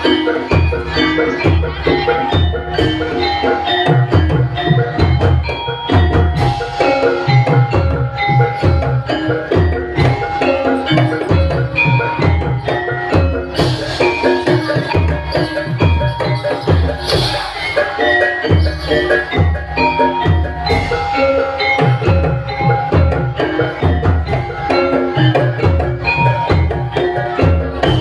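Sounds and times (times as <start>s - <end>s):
gamelan metallophone and gong-chimes: 0.0s - 28.0s.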